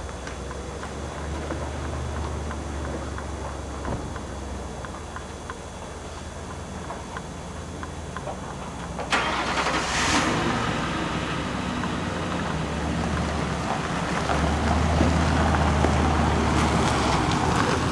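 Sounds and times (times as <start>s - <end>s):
vehicle engine starting and running: 0.0s - 17.9s.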